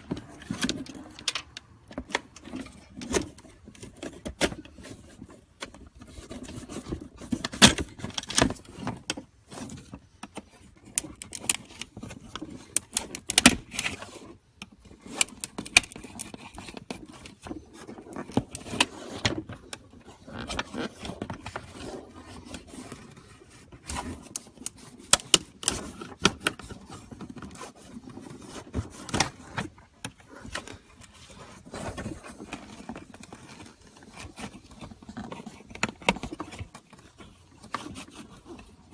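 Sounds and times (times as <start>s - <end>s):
tool scraping plastic: 0.0s - 38.9s.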